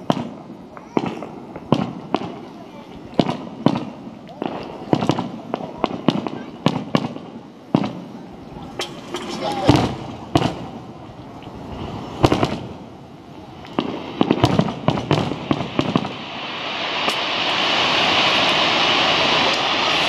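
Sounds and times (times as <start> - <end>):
fireworks shells bursting: 0.0 - 10.8, 11.6 - 12.8, 13.6 - 20.0
fireworks crackling: 0.0 - 20.0
steady hiss: 0.0 - 20.0.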